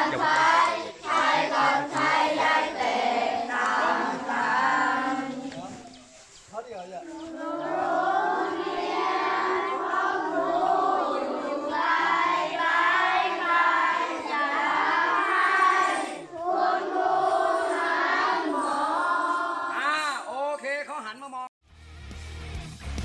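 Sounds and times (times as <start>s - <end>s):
children singing in unison: 0.0s - 5.9s, 7.1s - 19.9s.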